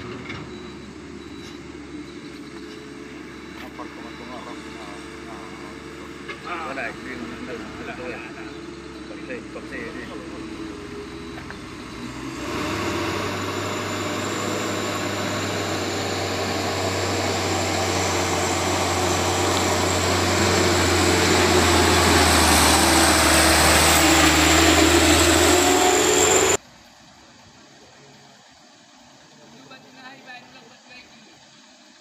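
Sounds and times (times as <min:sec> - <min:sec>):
truck diesel engine pulling uphill: 0:00.0 - 0:32.0.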